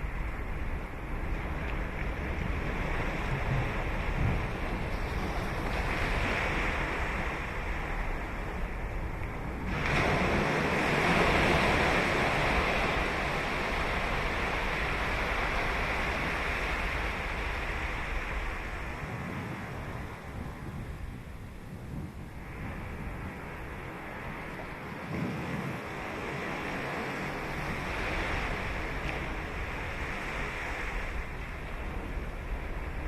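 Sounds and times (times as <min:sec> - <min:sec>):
waves washing on beach: 0:00.0 - 0:33.0.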